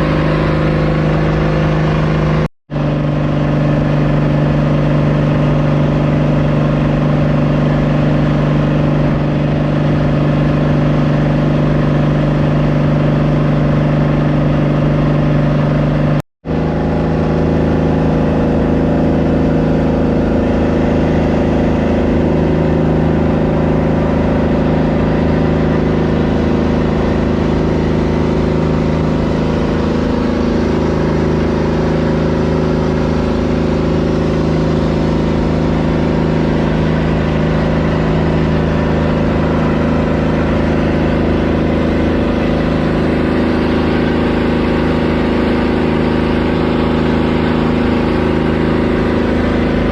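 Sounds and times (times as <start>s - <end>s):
boat engine running: 0.0s - 49.9s.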